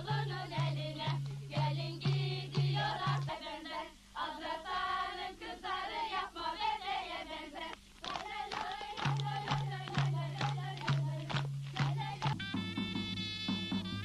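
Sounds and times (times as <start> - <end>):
women singing together: 0.0 - 12.4.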